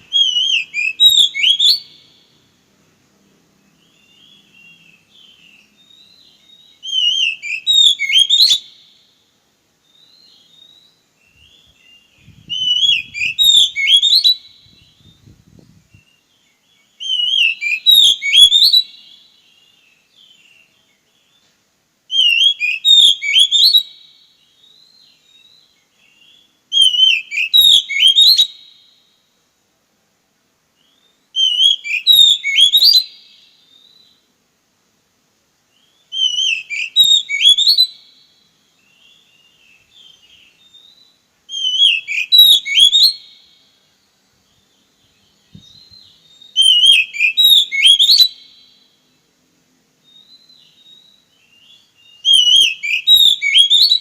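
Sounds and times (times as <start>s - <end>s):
bird whistling song: 0.0s - 2.3s, 3.7s - 9.1s, 9.8s - 21.5s, 22.1s - 29.1s, 30.8s - 34.3s, 35.7s - 43.8s, 44.4s - 49.2s, 50.0s - 54.0s.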